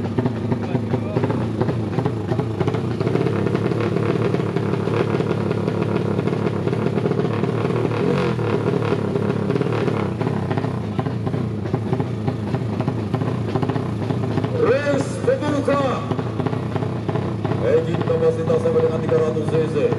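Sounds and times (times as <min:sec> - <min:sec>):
motorcycle engine rattling: 0:00.0 - 0:19.9.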